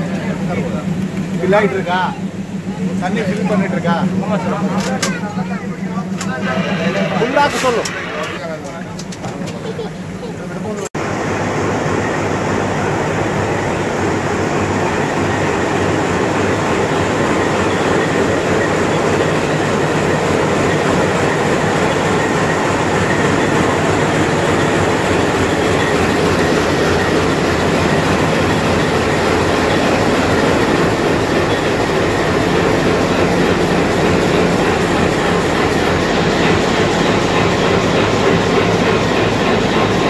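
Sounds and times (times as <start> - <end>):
train rumble and rattle: 0.0 - 40.0.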